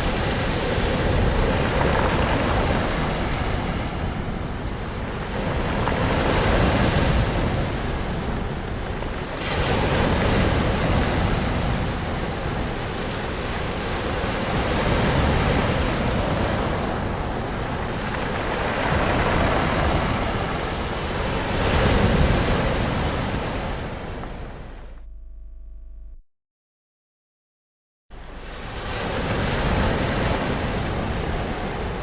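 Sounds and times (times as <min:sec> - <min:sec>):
ocean waves surging ashore: 0:00.0 - 0:24.9, 0:28.2 - 0:32.0.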